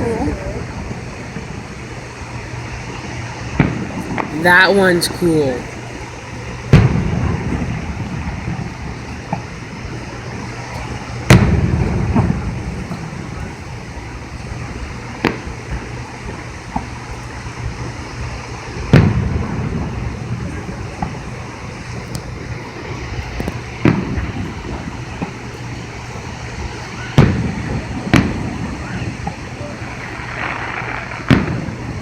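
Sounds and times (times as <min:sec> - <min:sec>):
fireworks cracks: 0:00.0 - 0:17.9, 0:18.8 - 0:32.0
fireworks booming: 0:00.0 - 0:32.0.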